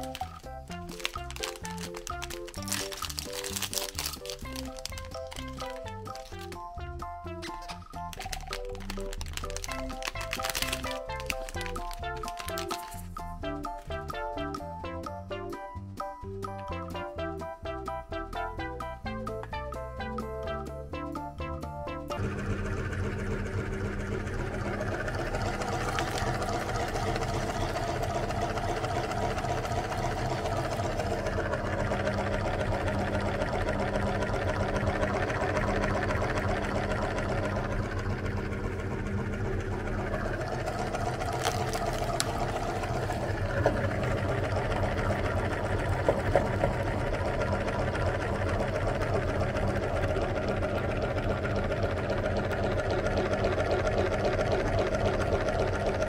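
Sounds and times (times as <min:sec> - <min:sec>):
meat grinder humming: 0:00.0 - 0:15.2, 0:22.1 - 0:56.0.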